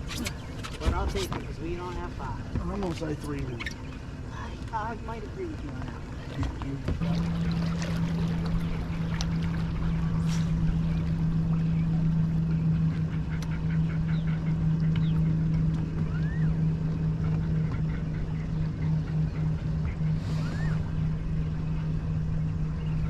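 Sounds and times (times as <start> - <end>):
outboard motor humming: 0.0 - 23.0
water noise: 0.0 - 23.0.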